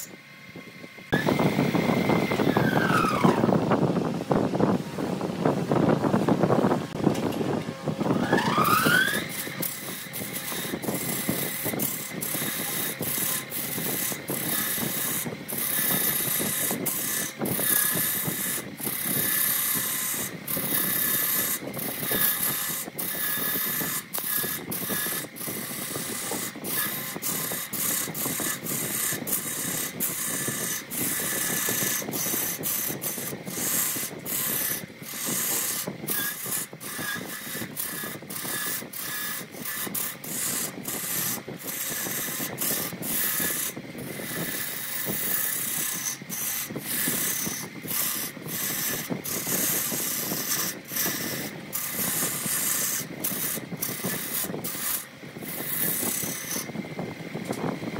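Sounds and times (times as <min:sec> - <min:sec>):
lathe whine: 0:00.0 - 0:57.9
gouge cutting wood on lathe: 0:01.1 - 0:03.6, 0:07.7 - 0:56.8.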